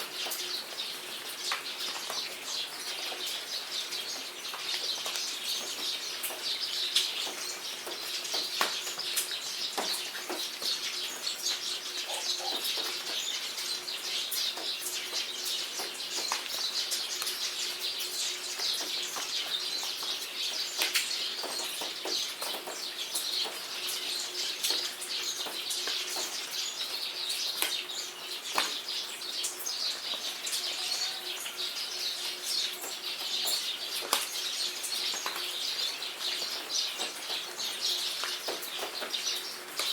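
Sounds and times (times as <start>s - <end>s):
birds singing and chirping: 0.0s - 39.9s
steady rainfall: 0.0s - 39.9s.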